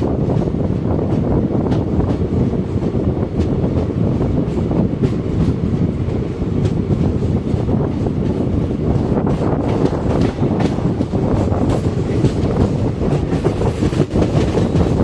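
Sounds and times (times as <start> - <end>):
train wagons rumbling: 0.0 - 15.0
wheels clacking over rail joints: 0.2 - 15.0.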